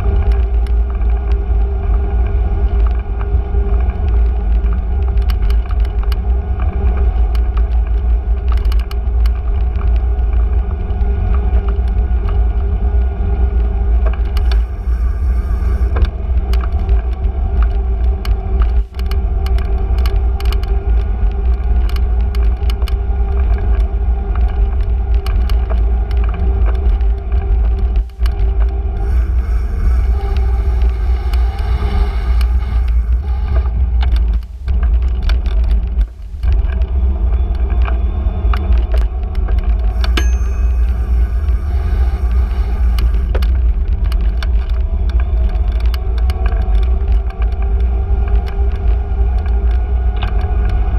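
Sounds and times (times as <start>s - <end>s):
bicycle clicks and rattles: 0.0s - 50.9s
wind and road rumble: 0.0s - 50.9s.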